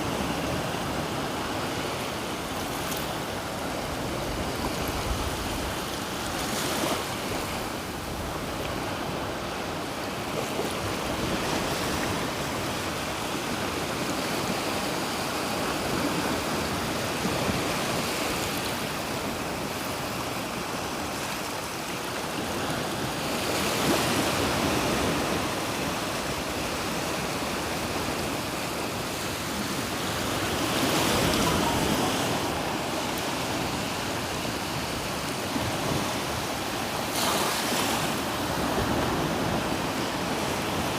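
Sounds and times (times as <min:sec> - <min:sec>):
surf waves washing onto beach: 0:00.0 - 0:40.9.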